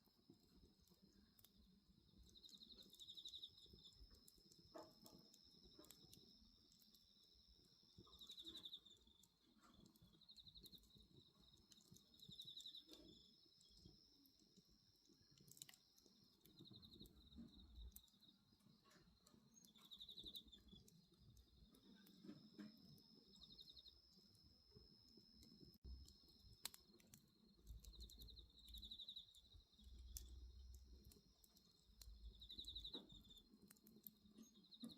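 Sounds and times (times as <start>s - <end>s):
bonfire crackling and popping: 0.0s - 34.9s
insect pulsed chirps: 2.0s - 33.6s.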